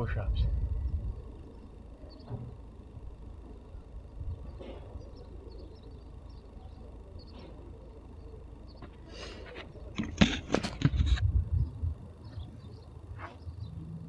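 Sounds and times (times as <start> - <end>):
low outdoor rumble: 0.0 - 14.0
faint bird chirps: 0.6 - 10.0, 11.5 - 13.9.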